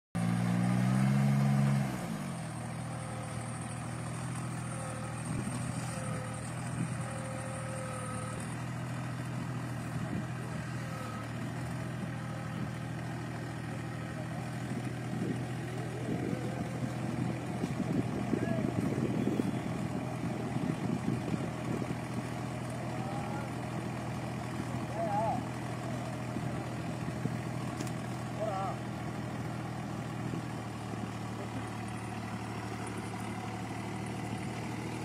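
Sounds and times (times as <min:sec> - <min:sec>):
farm machine engine running: 0:00.2 - 0:35.0.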